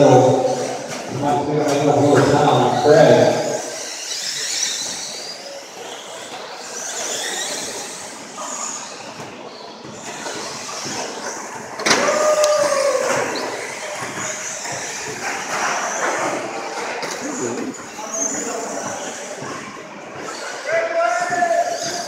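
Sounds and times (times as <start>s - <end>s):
toy truck motors whining: 0.0s - 19.4s
tyre noise: 0.0s - 22.0s.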